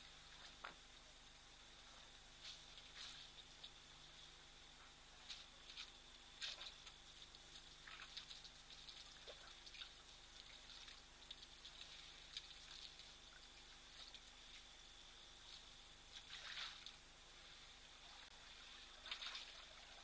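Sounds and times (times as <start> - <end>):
water drips and small splashes: 0.0 - 20.0.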